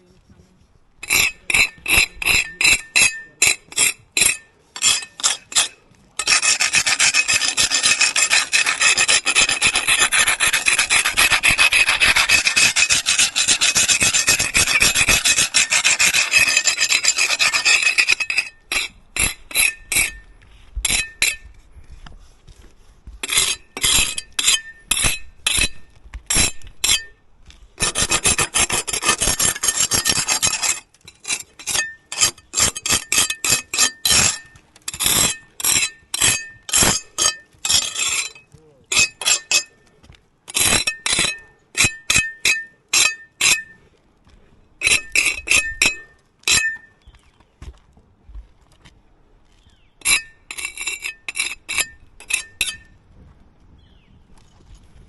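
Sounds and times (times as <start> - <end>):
hand tool scraping hard surface: 1.0 - 21.5, 22.6 - 27.2, 27.8 - 39.9, 40.5 - 43.8, 44.8 - 46.9, 50.0 - 52.9.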